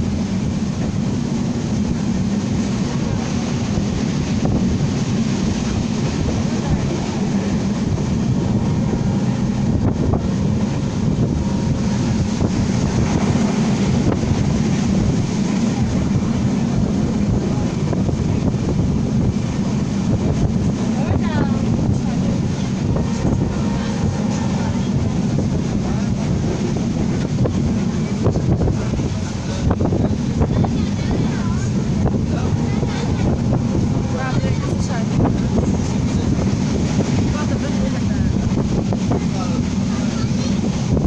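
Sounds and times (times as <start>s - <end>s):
wind noise on microphone: 0.0s - 41.0s.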